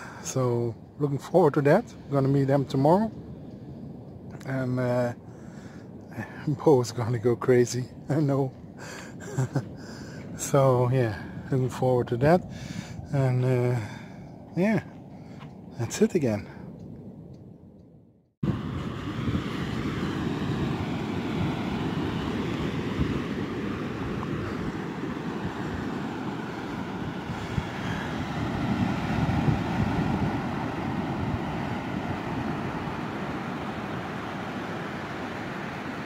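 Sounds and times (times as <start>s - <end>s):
sea surf rumbling: 0.0s - 16.7s, 18.4s - 36.0s
wind buffeting microphone: 0.0s - 36.0s.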